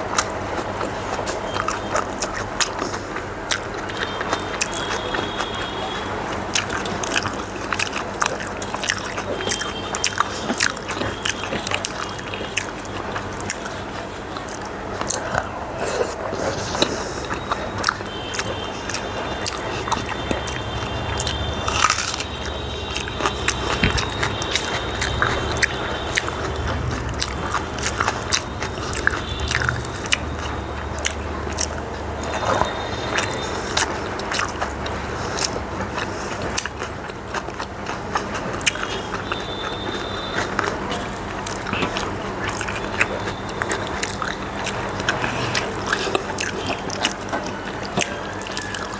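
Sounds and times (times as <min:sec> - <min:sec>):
wet chewing and mouth smacks: 0:00.0 - 0:48.9.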